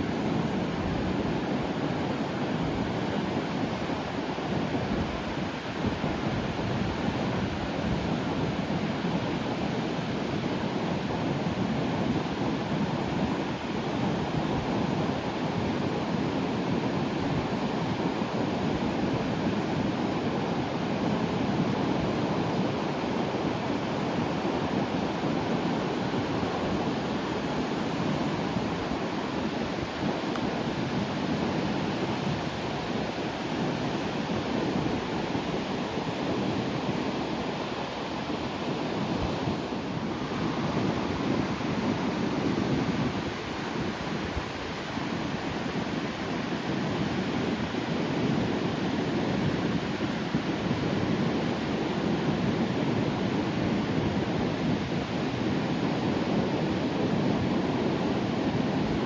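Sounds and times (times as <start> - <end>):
surf washing on shore: 0.0 - 59.0
wind on microphone: 0.0 - 59.0.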